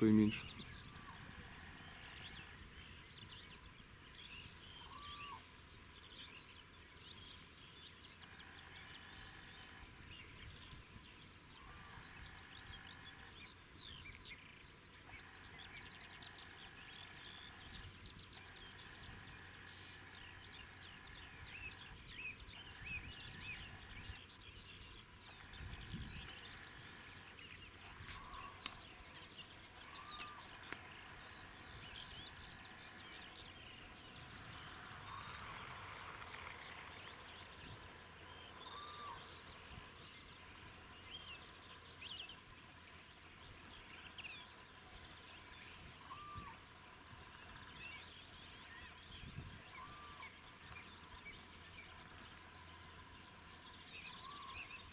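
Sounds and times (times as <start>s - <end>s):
songbirds chirping: 0.0s - 54.9s
bird trill: 4.3s - 6.5s, 11.4s - 42.4s, 43.7s - 54.9s.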